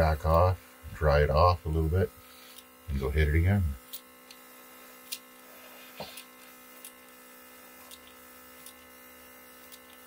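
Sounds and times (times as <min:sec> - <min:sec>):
airbrush equipment electric hum: 0:00.0 - 0:10.0.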